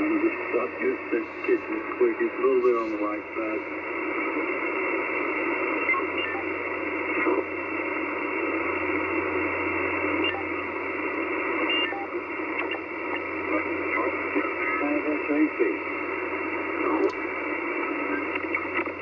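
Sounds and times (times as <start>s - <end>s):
radio receiver hiss: 0.0s - 19.0s.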